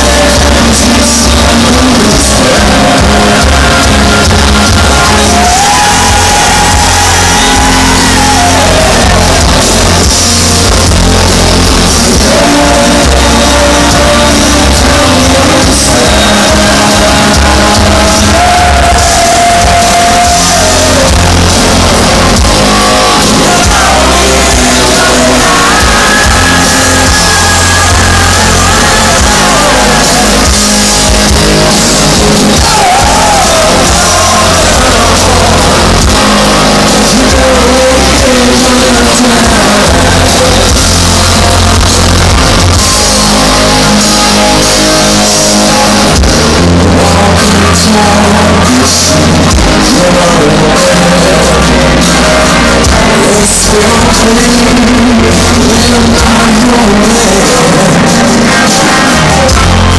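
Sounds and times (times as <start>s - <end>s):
bending melody line: 0.0s - 59.9s
live rock band playing: 0.0s - 59.9s.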